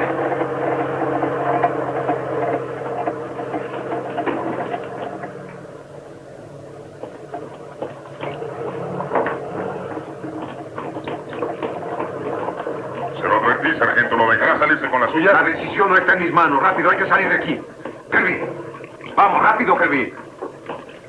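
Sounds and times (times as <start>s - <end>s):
knocks and clanks: 0.0s - 21.0s
tank engine droning: 0.0s - 21.0s.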